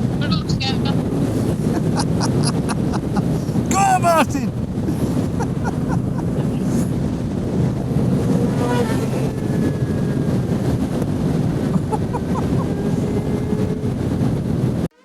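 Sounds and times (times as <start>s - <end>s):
motorcycle engine cruising: 0.0s - 3.8s, 4.5s - 14.9s
wind rush on microphone: 0.0s - 14.9s.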